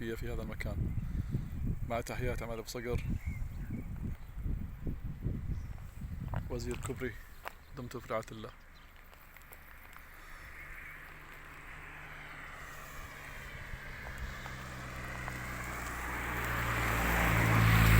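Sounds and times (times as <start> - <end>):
vehicle engine humming: 0.7 - 17.9.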